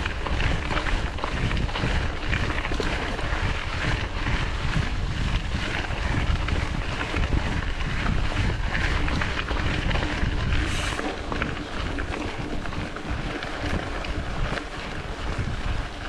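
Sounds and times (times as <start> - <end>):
bike rattling on rough trail: 0.0 - 16.0
wind buffeting microphone: 0.0 - 16.0.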